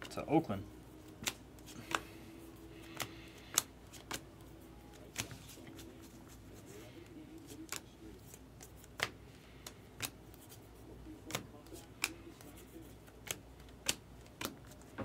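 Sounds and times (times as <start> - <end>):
cards snapping as flipped: 1.0 - 2.2, 2.8 - 6.4, 7.4 - 15.0.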